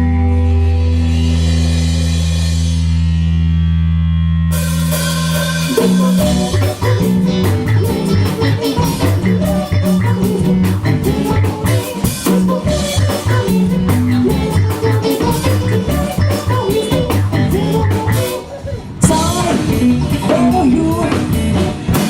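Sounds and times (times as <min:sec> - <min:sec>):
live rock band playing: 0:00.0 - 0:22.0
drums and cymbals: 0:01.1 - 0:03.1, 0:04.5 - 0:22.0.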